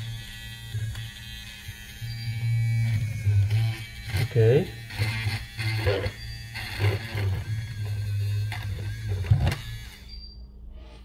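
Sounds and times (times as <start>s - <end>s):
electric pen grinding adhesive: 0.0s - 10.3s
motor hum: 0.0s - 11.0s.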